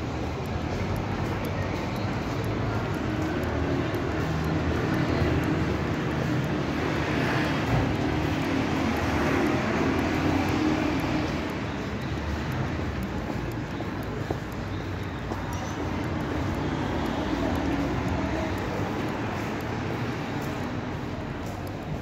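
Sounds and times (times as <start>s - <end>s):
vehicle engine and tyre noise: 0.0s - 22.0s.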